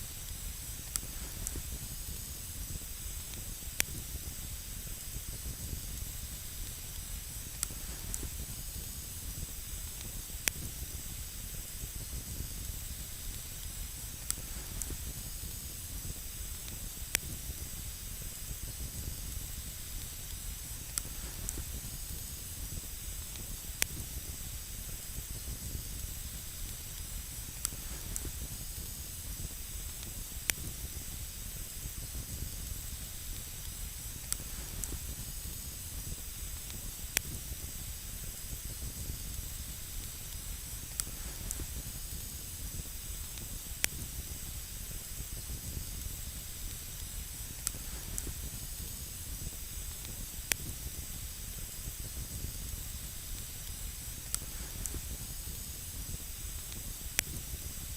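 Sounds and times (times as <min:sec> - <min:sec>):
campfire hissing and rumbling: 0:00.0 - 0:57.9
sharp fire crackles: 0:00.0 - 0:57.9.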